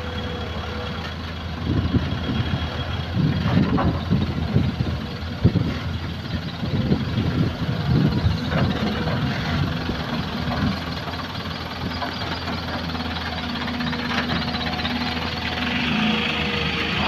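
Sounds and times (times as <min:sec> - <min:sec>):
diesel truck engine passing: 0:00.0 - 0:17.0.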